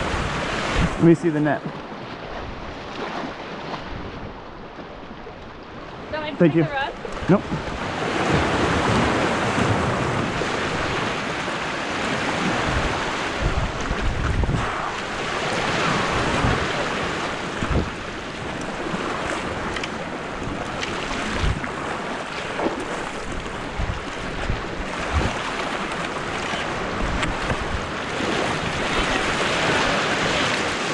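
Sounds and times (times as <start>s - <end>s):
wind buffeting microphone: 0.0s - 1.0s, 1.6s - 30.9s
surf washing over rocks: 0.0s - 30.9s.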